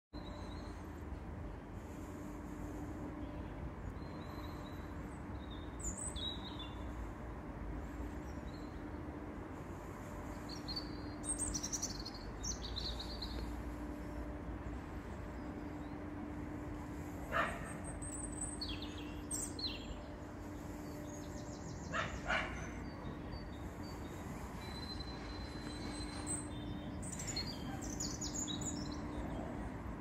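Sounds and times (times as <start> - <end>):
faint hum: 0.2 - 30.0
small birds chirping: 1.8 - 29.9.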